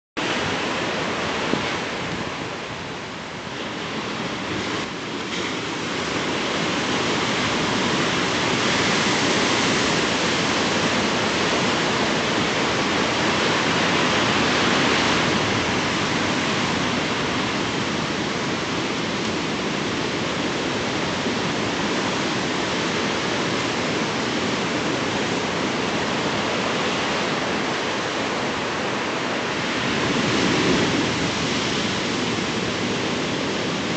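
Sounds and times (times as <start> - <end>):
ocean surf breaking: 0.2 - 33.9.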